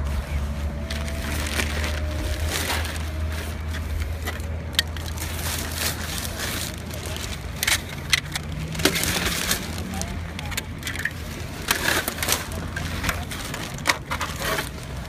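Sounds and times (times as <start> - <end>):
crackling rubbing handling noise: 0.0 - 15.0
low engine hum: 0.0 - 15.0.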